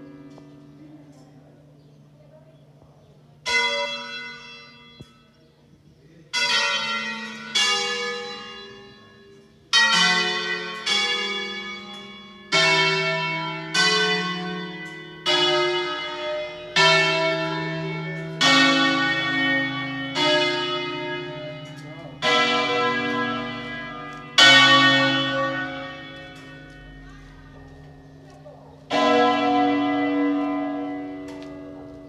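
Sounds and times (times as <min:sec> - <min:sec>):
church bells ringing melody: 0:00.0 - 0:02.4, 0:03.3 - 0:05.4, 0:06.2 - 0:32.0.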